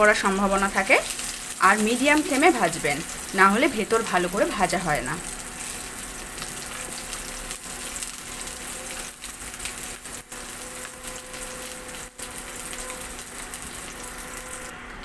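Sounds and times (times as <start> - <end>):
fish roe sizzling in hot oil: 0.0 - 15.0.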